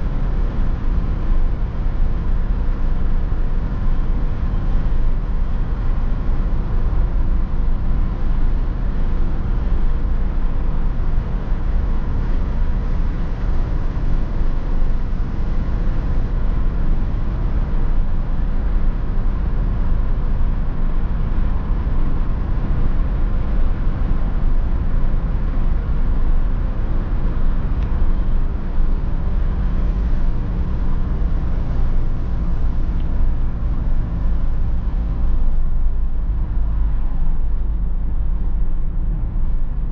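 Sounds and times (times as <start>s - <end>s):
diesel engine low drone: 0.0s - 39.9s.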